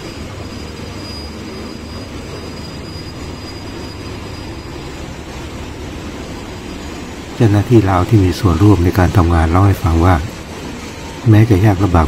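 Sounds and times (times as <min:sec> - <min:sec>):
thin high whine: 0:00.0 - 0:12.0
track-laying machinery rumble: 0:00.0 - 0:12.0.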